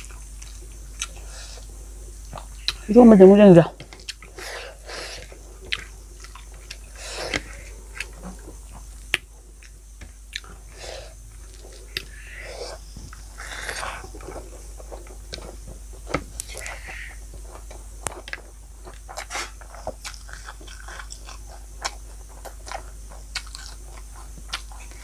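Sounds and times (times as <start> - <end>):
person chewing: 0.0 - 1.7, 2.3 - 2.9, 3.9 - 25.0.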